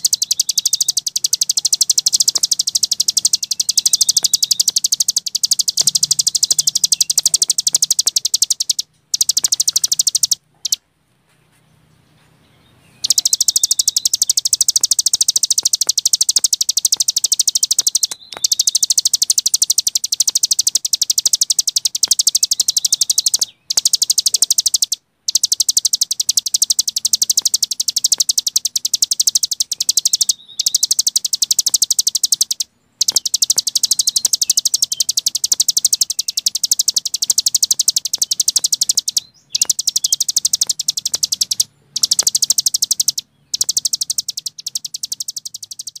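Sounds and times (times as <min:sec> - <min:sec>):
songbird high rapid trill: 0:00.0 - 0:10.8, 0:13.0 - 0:46.0.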